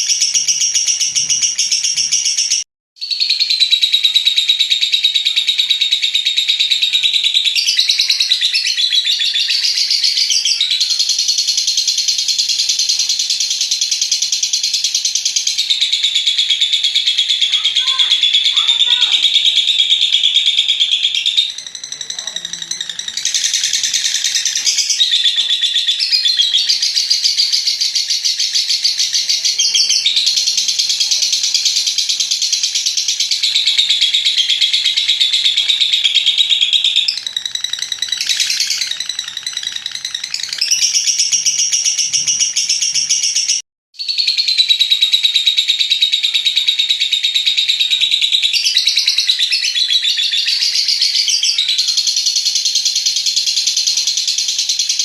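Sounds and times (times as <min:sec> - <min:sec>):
lovebird chattering song: 0:00.0 - 0:55.0.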